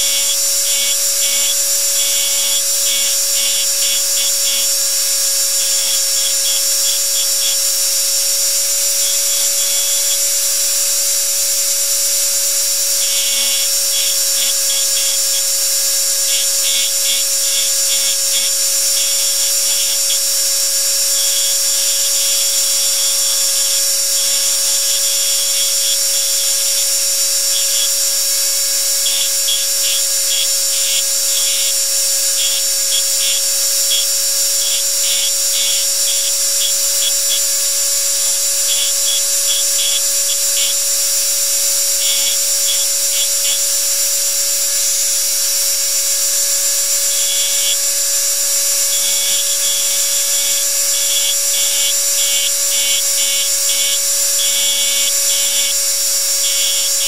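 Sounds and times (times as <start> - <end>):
rapid ticking of engraving on metal: 0.0 - 44.2, 44.8 - 57.0
engraving machine hum and whine: 0.0 - 57.0.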